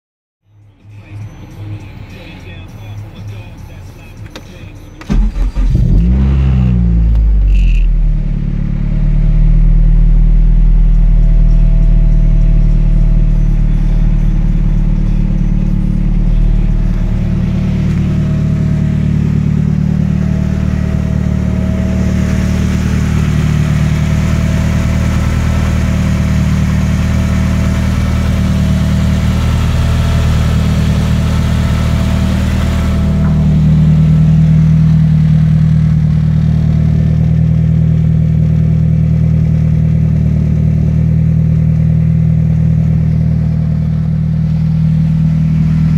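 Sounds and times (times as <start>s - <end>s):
car engine starting and idling: 0.5s - 45.9s.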